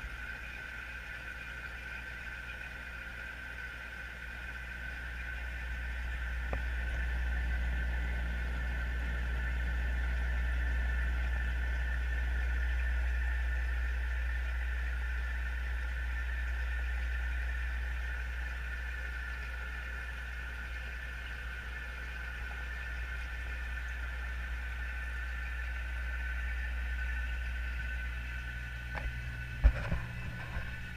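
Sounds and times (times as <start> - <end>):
low hum: 0.0 - 30.9
high whine: 3.8 - 30.9.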